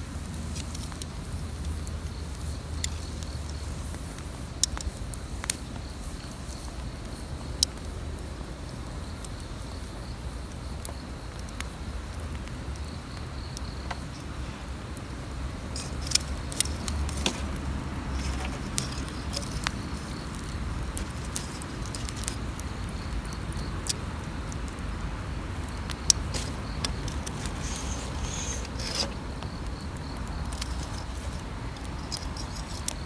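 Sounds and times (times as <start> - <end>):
campfire crackling and popping: 0.0 - 33.0
fire low rumble: 0.0 - 33.0.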